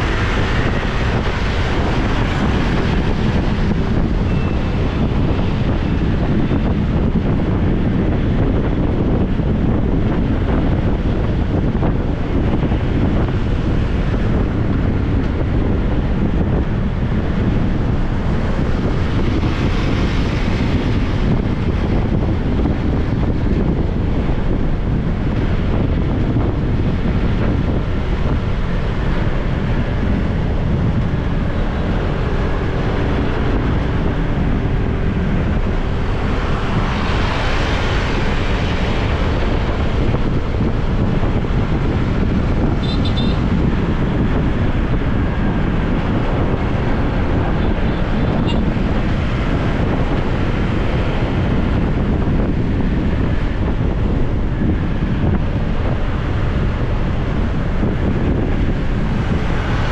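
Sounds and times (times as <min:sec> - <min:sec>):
motorbike and road rumble: 0:00.0 - 0:59.9
wind buffeting microphone: 0:00.0 - 0:59.9.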